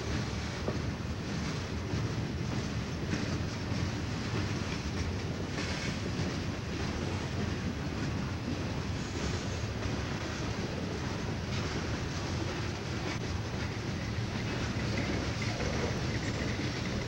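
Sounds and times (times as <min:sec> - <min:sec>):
freight train wheels rumbling: 0:00.0 - 0:17.0
wheels clacking on rails: 0:00.0 - 0:17.0.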